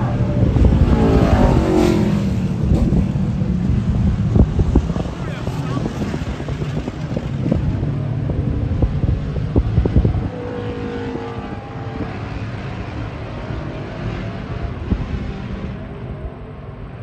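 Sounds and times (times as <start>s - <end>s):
race car engines at speed: 0.0s - 17.0s
wind buffeting microphone: 0.0s - 17.0s.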